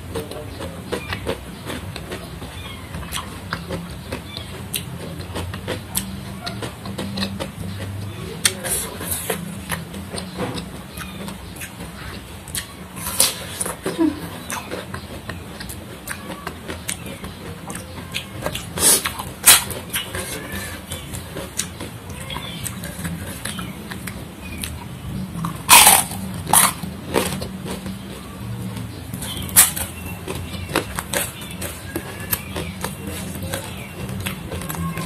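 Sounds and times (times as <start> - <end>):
chewing crunchy food: 0.0 - 35.0.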